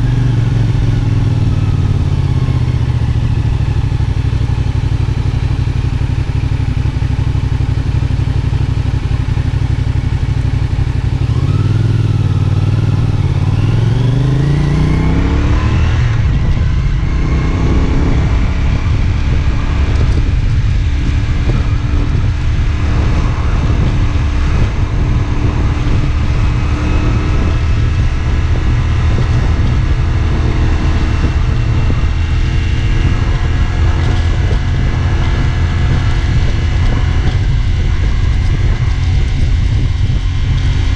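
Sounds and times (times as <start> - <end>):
motorcycle engine: 0.0 - 40.9
rushing road and wind noise: 0.0 - 40.9.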